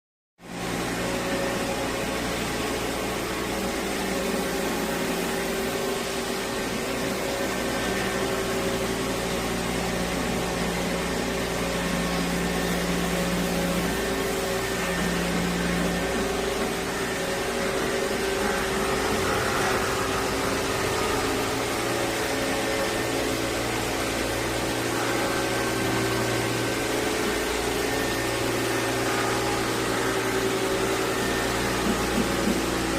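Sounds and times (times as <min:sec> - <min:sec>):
floor scrubber motor hum: 0:00.4 - 0:32.9.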